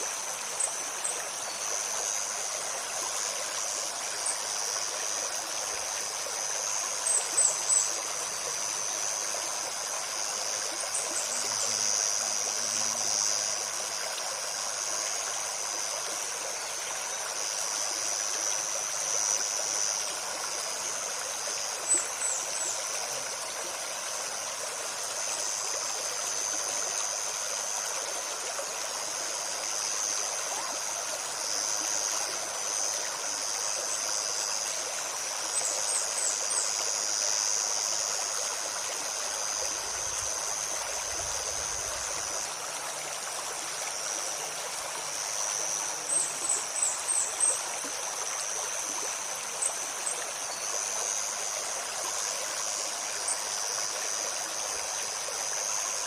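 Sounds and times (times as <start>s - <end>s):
insects droning: 0.0s - 56.0s
stream babbling over stones: 0.0s - 56.0s.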